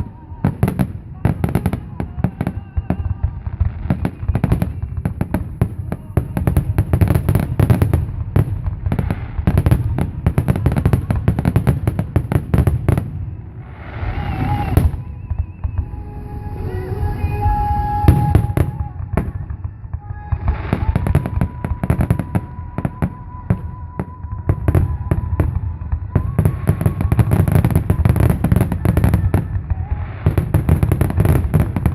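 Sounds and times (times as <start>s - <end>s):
fireworks booms and crackling bangs: 0.0s - 31.9s.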